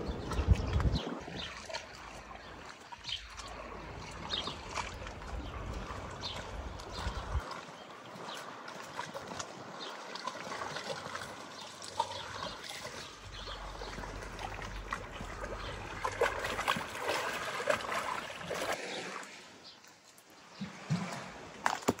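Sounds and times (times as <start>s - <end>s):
water trickling and lapping: 0.0s - 22.0s.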